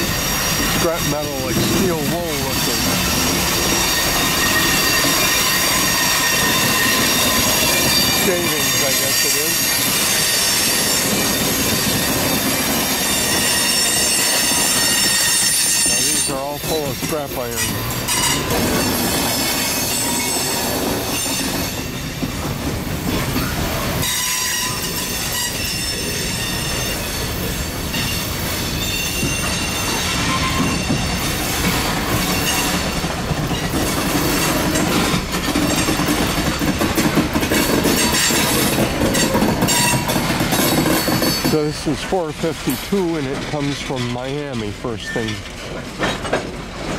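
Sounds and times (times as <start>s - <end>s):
high wheel squeals: 0.0s - 22.2s, 23.1s - 36.1s, 37.5s - 42.0s
steel wheels clattering on rail: 0.0s - 46.9s.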